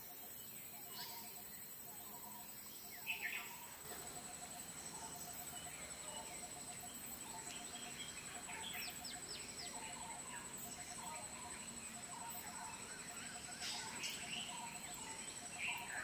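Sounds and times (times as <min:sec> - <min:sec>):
bird chirps: 0:00.0 - 0:16.0
high-pitched insect drone: 0:00.0 - 0:16.0.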